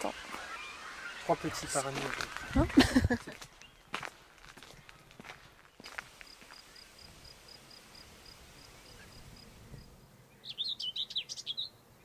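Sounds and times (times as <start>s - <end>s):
bird twittering song: 0.0s - 12.0s.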